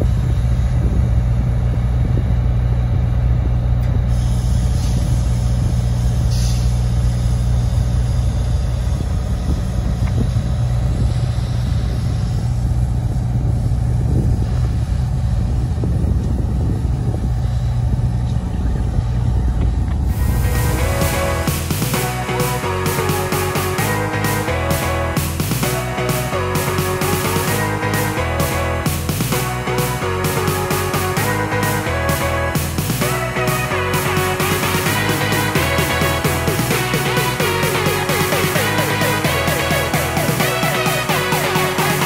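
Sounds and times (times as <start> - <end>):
diesel locomotive engine rumbling: 0.0 - 42.0.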